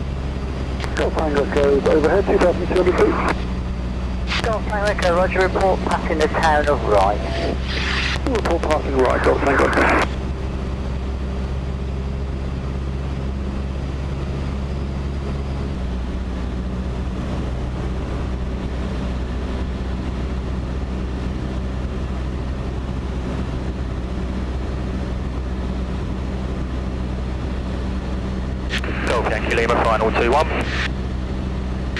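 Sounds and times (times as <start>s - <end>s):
aircraft engine and propeller droning: 0.0s - 31.9s.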